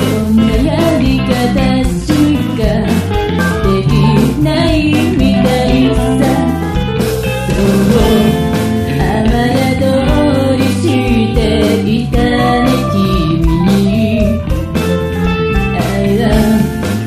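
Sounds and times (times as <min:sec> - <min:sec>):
pop-rock band music: 0:00.0 - 0:17.0.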